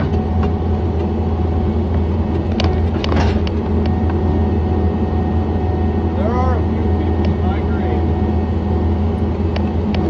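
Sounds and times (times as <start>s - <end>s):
loader engine running: 0.0s - 10.0s.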